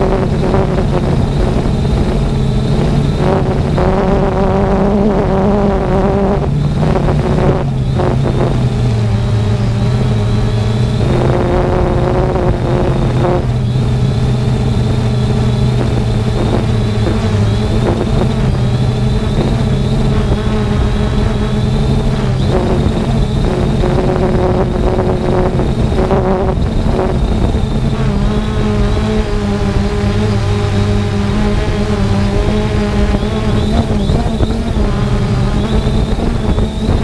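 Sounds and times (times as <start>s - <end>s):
drone motors humming: 0.0s - 37.0s
wind rumble on microphone: 0.0s - 37.0s.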